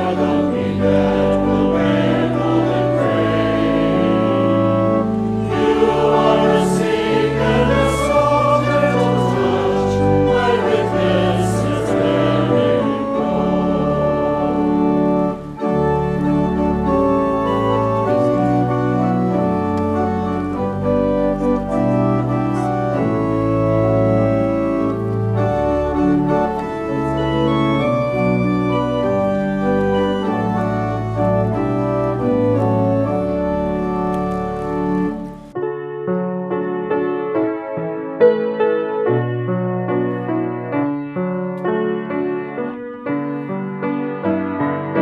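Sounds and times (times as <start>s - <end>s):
organ playing a hymn: 0.0s - 45.0s.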